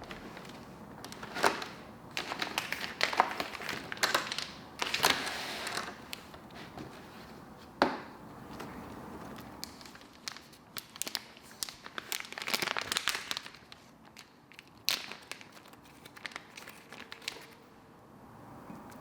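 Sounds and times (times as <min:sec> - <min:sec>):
crinkling and crackling: 0:00.0 - 0:17.7.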